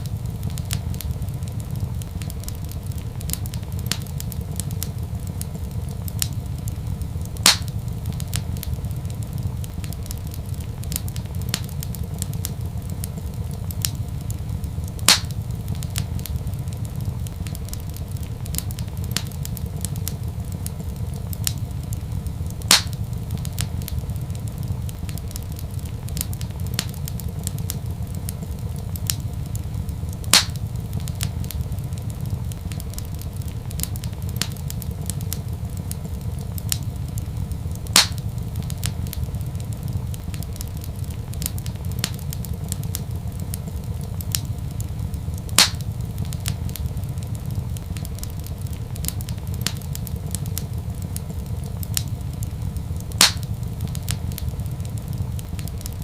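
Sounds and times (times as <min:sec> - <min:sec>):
sharp pops of fire: 0:00.0 - 0:56.0
wood fire crackling: 0:00.0 - 0:56.0.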